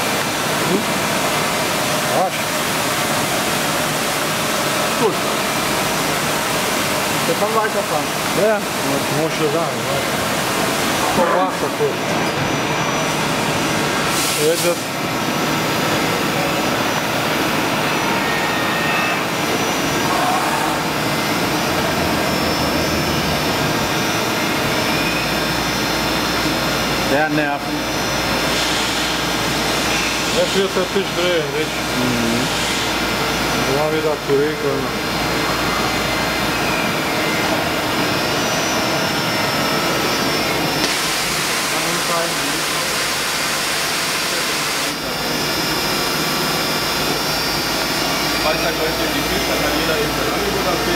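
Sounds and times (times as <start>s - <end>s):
machining centre whirring: 0.0s - 50.9s.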